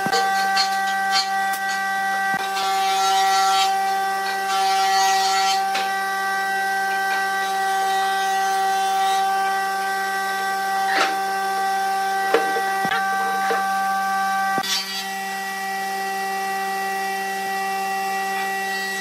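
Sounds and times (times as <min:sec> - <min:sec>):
high-pitched hum: 0:00.0 - 0:19.0.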